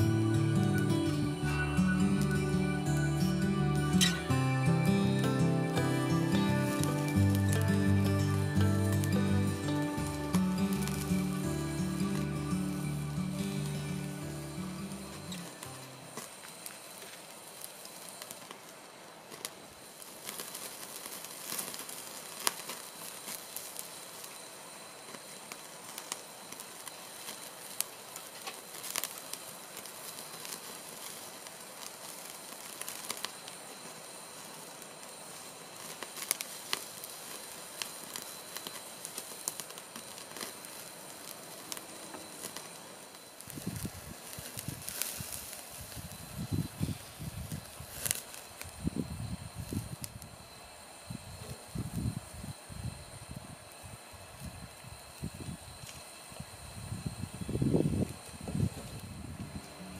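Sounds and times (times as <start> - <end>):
fire crackling and popping: 0.0 - 59.9
meat sizzling on a grill: 0.2 - 59.9.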